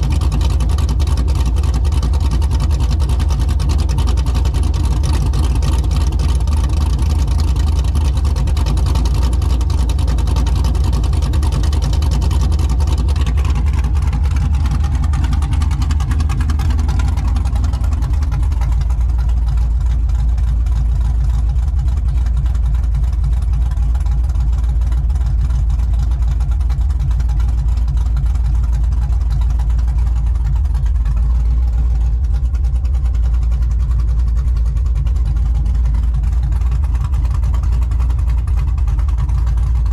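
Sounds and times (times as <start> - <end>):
v eight engine exhaust rumbling: 0.0 - 39.9.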